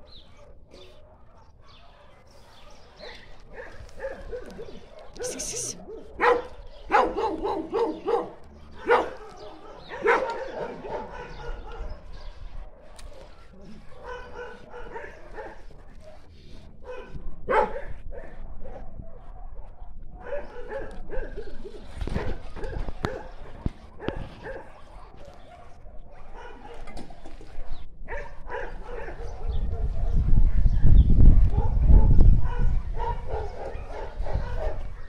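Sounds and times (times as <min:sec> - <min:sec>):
dogs barking: 0:00.0 - 0:35.0.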